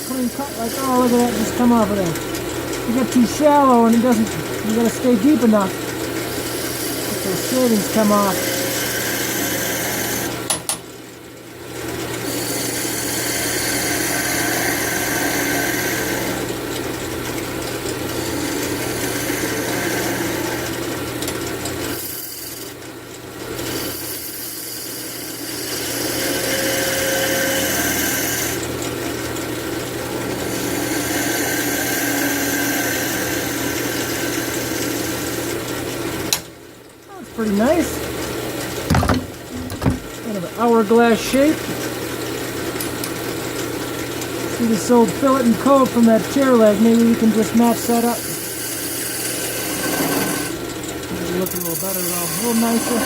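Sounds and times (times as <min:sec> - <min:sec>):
lathe motor hum: 0:00.0 - 0:10.7, 0:11.6 - 0:36.4, 0:37.2 - 0:53.0
tool cutting spinning wood: 0:00.0 - 0:10.8, 0:11.7 - 0:36.4, 0:37.2 - 0:53.0.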